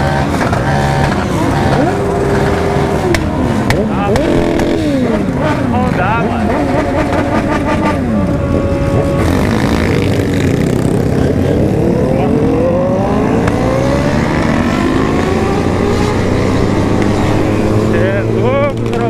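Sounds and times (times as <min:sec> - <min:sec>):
motorcycle engines accelerating: 0:00.0 - 0:19.0
wind and road rumble: 0:00.0 - 0:19.0.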